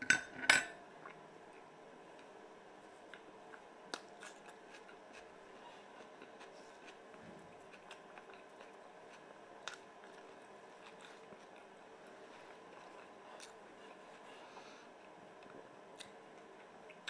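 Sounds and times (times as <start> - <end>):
low room hum: 0.0 - 17.0
man chewing food: 3.0 - 17.0.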